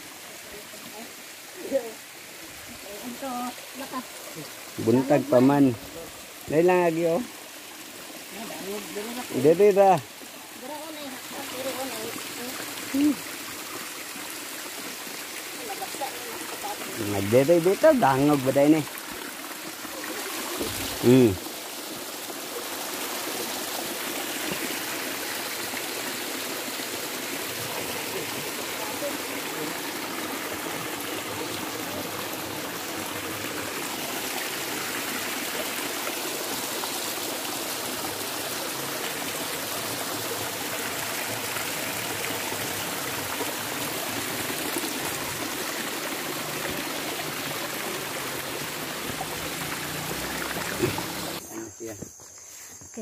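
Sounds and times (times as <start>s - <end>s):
creek water rushing over rock: 0.0s - 51.5s.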